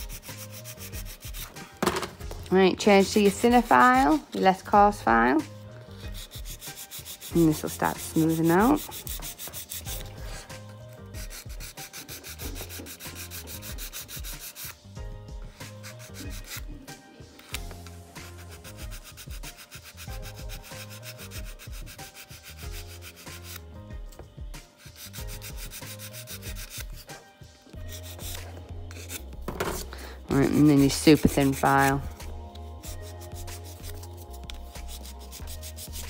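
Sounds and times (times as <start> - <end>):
nail file scraping a nail: 0.0 - 1.6, 5.5 - 14.8, 15.5 - 16.8, 17.4 - 23.8, 24.8 - 36.0.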